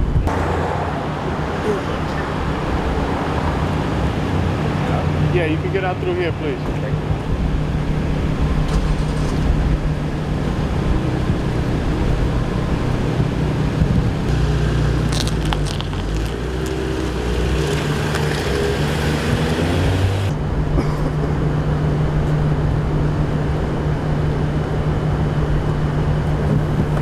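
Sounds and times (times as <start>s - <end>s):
vehicle engine low rumble: 0.0s - 27.0s.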